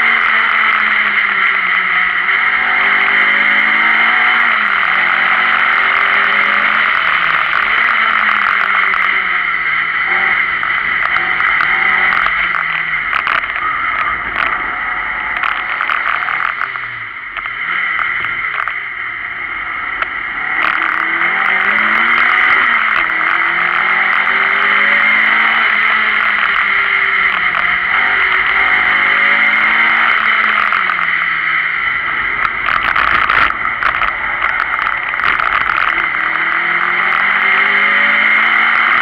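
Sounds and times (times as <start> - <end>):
rally car engine revving: 0.0 - 39.0
wind and road noise: 0.0 - 39.0.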